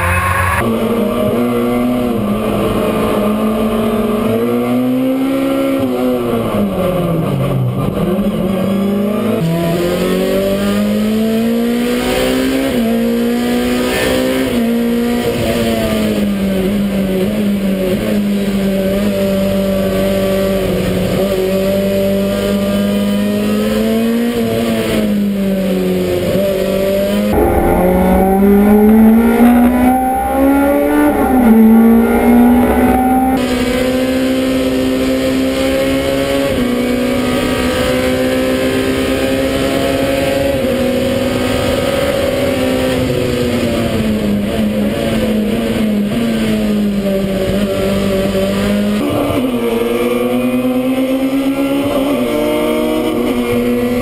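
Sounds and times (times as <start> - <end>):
race car engine revving: 7.8 - 54.0.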